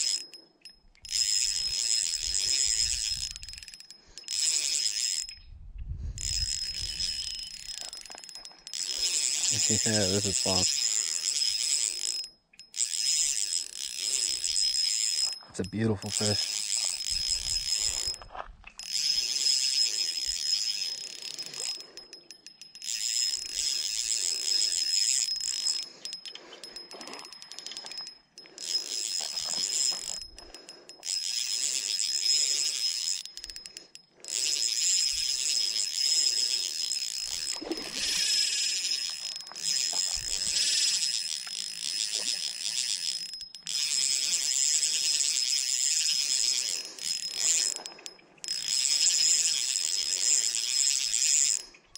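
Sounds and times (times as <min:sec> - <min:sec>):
fishing reel whirring: 0:00.0 - 0:51.9.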